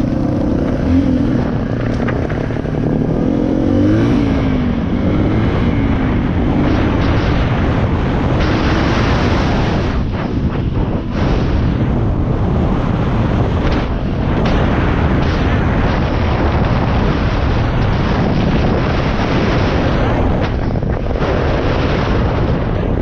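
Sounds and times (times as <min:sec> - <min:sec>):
dirt bike engine running: 0:00.0 - 0:23.0
wind buffeting microphone: 0:00.0 - 0:23.0.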